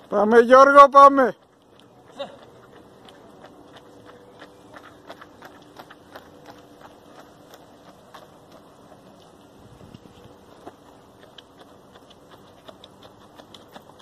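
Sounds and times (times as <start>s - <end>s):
faint steady hum: 0.0s - 14.0s
runners' footfalls on road: 0.0s - 14.0s.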